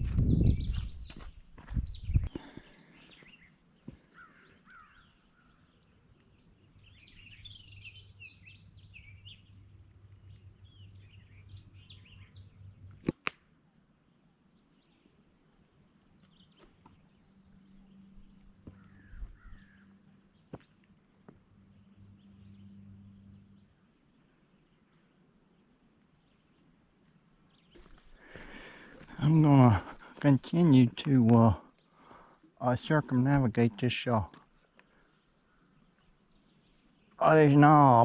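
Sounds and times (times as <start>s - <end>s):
small birds chirping: 0.0s - 13.3s, 14.0s - 38.0s.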